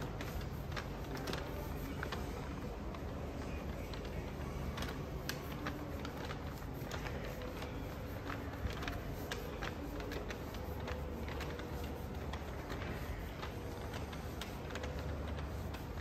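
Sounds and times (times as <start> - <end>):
steady mall hum: 0.0 - 16.0.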